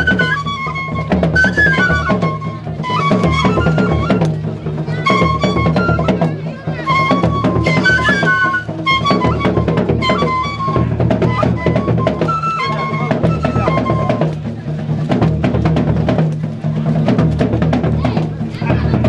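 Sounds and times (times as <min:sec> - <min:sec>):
fast drum beat: 0:00.0 - 0:19.0.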